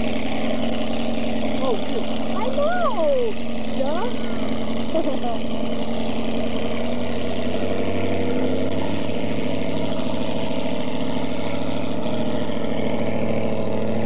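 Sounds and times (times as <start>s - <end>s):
motorboat engine idling: 0.0s - 14.0s.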